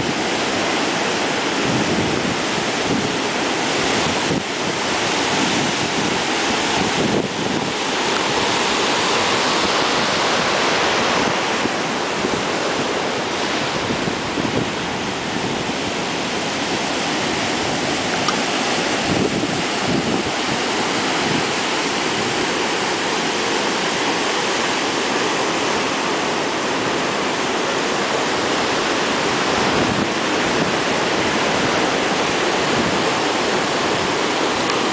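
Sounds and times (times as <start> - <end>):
heavy surf: 0.0 - 34.9
strong wind: 0.0 - 34.9.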